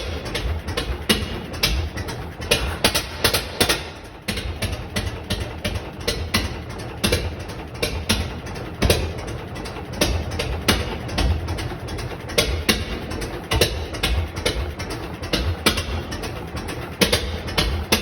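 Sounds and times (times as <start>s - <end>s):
stationary engine running slowly: 0.0s - 18.0s.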